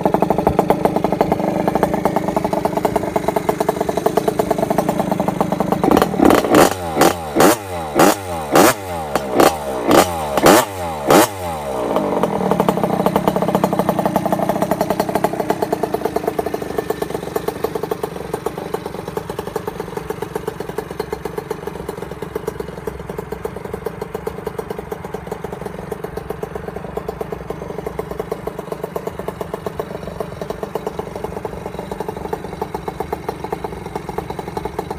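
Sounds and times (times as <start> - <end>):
small motorbike engine idling: 0.0 - 34.9.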